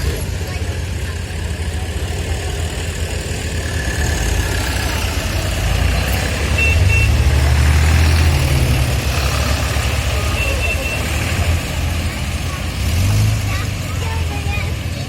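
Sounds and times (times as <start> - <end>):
tractor engines rumbling: 0.0 - 15.0.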